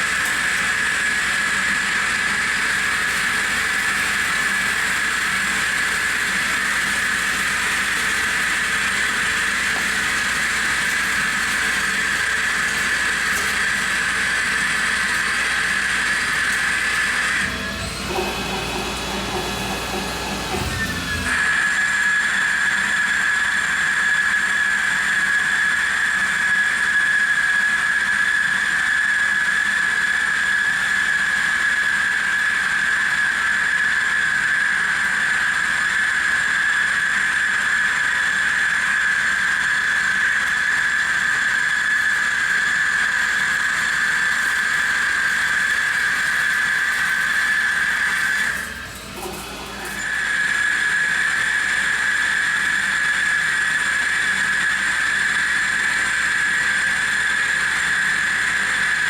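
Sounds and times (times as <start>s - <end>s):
lathe cutting steel whine: 0.0s - 59.0s.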